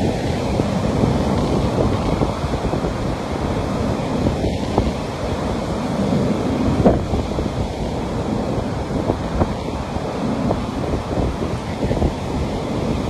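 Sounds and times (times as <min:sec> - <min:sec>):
ocean waves washing onto beach: 0:00.0 - 0:13.0
wind buffeting microphone: 0:00.0 - 0:13.0.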